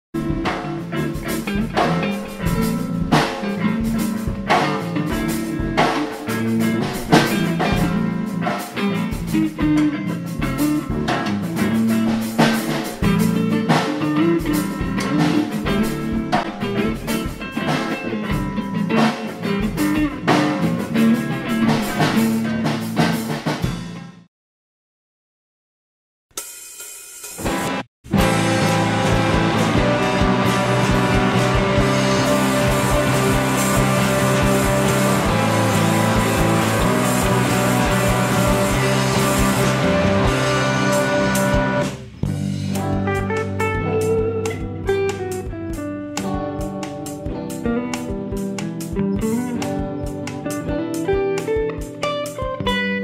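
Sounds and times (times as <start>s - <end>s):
drum kit beat: 0.2s - 24.2s, 26.3s - 53.0s
electric guitar: 0.2s - 24.2s, 27.4s - 53.0s.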